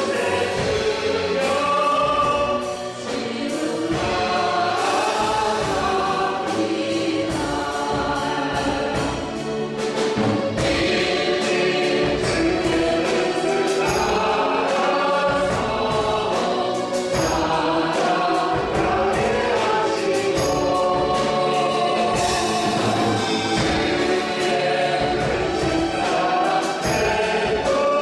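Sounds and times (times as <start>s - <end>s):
group singing worship song: 0.0s - 28.0s
instrumental accompaniment: 0.0s - 28.0s.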